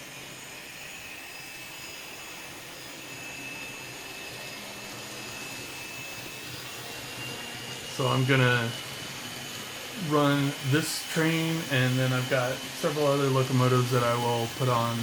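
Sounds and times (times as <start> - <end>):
model train motor whine: 0.0 - 15.0
wheels rolling on track: 0.0 - 15.0.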